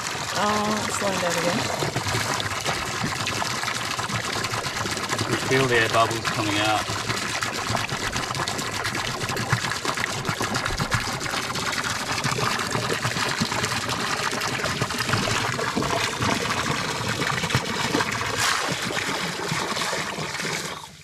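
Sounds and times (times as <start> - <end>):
air bubbles: 0.0 - 21.0
water pouring from pipe: 0.0 - 21.0.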